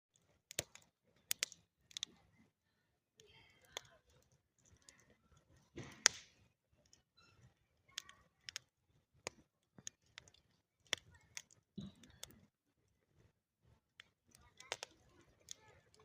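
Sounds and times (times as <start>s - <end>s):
wood fire crackling: 0.1s - 16.0s.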